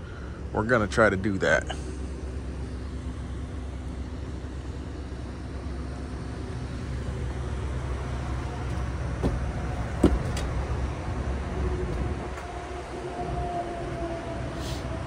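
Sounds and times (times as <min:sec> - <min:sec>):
motor vehicle rumbling: 0:00.0 - 0:15.0.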